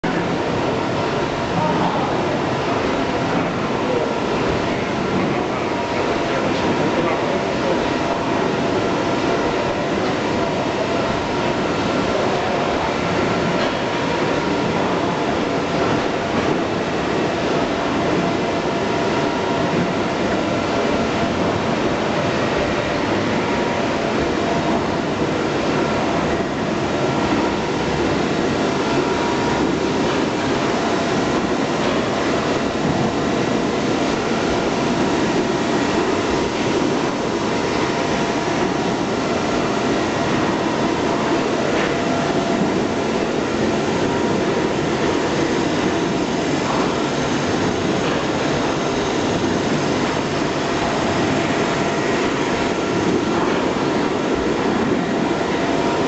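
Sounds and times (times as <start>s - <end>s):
printing press clatter and hum: 0.0s - 56.0s.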